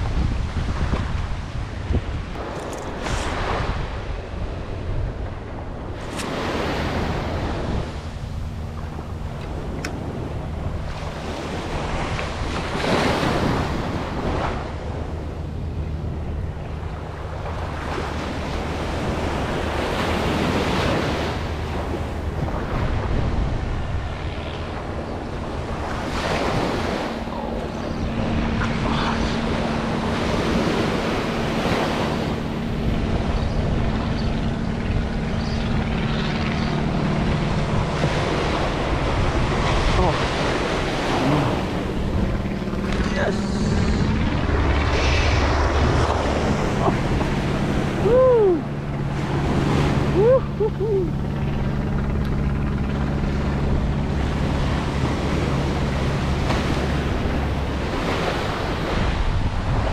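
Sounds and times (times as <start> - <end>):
surf washing up a beach: 0.0 - 15.6, 16.4 - 51.5, 53.2 - 59.9
wind buffeting microphone: 0.0 - 59.9.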